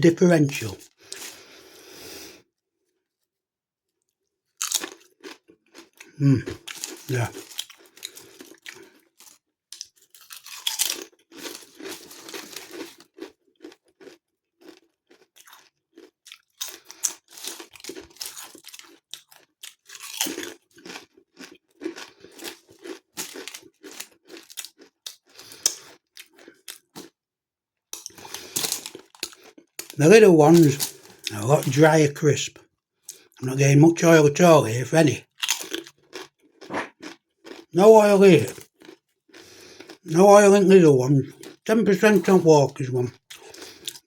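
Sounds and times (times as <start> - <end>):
person chewing crisps: 0.4 - 27.3, 28.0 - 44.0.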